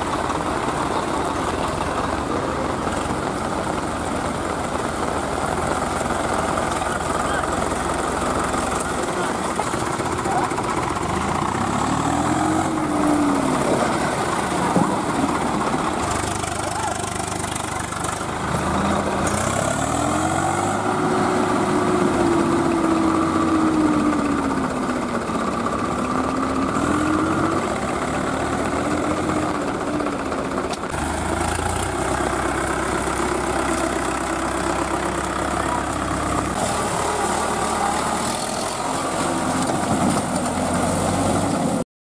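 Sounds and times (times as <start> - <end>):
diesel tractor engines revving: 0.0 - 41.9.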